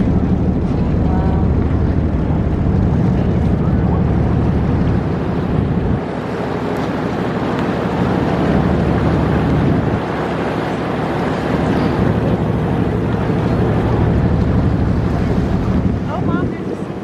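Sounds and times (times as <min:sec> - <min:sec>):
boat engine: 0:00.0 - 0:17.0
water noise: 0:00.0 - 0:17.0
wind on microphone: 0:00.0 - 0:17.0.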